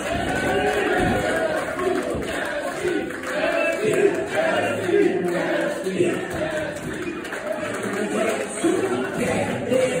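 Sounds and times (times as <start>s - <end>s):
crowd cheering and shouting: 0.0s - 10.0s.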